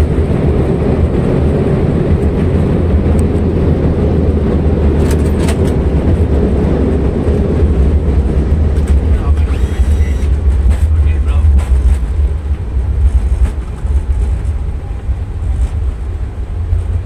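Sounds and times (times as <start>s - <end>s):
airliner engines rumbling: 0.0s - 17.0s.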